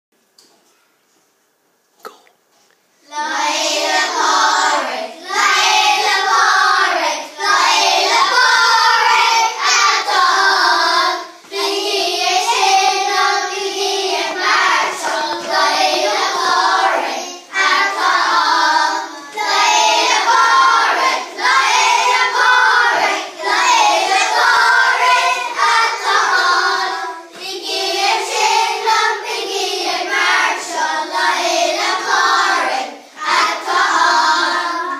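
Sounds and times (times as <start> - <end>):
young children singing: 3.0 - 34.9.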